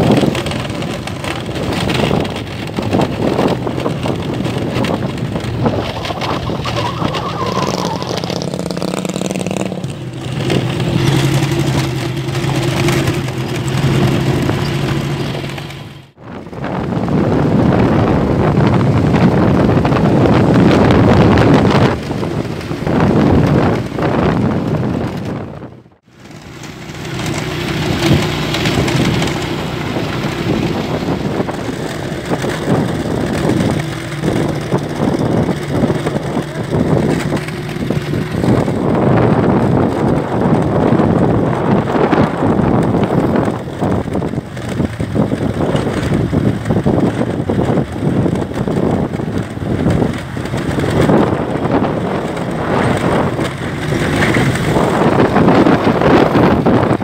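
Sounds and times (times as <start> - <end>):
vehicle engine hum: 0.0 - 57.0
wind buffeting microphone: 0.0 - 57.0.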